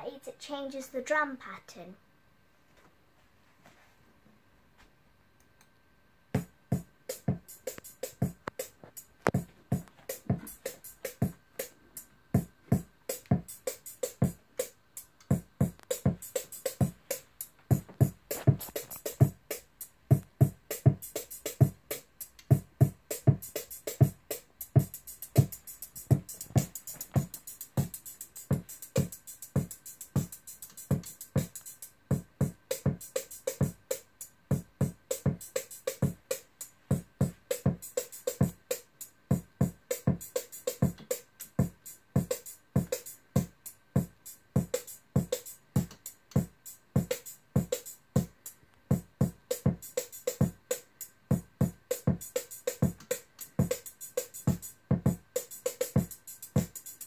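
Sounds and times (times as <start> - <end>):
electronic drum pattern: 6.3 - 57.0.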